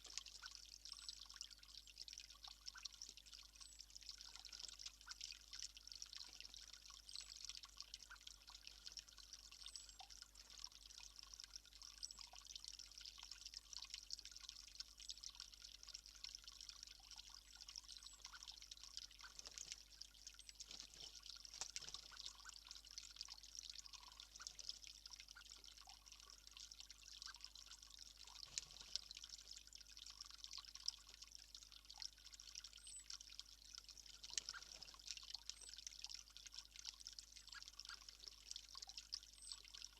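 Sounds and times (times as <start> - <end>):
running water trickle: 0.0 - 39.9.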